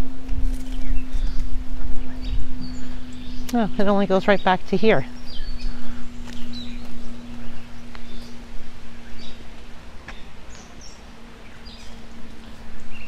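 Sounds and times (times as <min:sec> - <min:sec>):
birds chirping: 0:00.0 - 0:13.0
low rumbling background noise: 0:00.0 - 0:13.0
steady low hum: 0:00.0 - 0:13.0.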